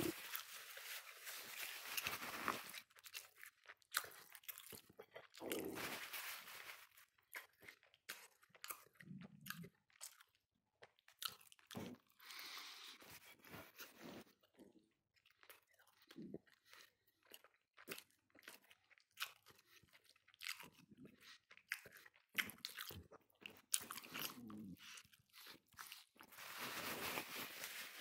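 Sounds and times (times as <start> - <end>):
person chewing chicken: 0.0 - 27.4.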